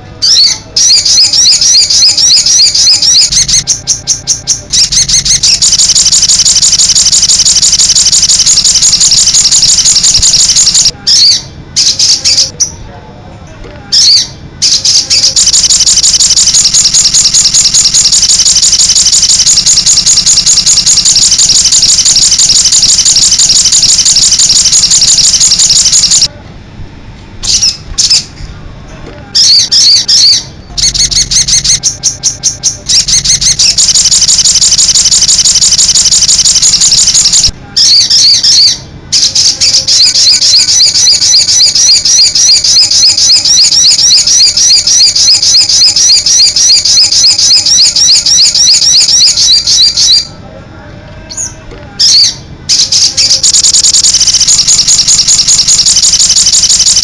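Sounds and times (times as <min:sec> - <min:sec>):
bird twittering song: 0:00.2 - 0:12.8, 0:14.0 - 0:26.3, 0:29.4 - 0:50.3.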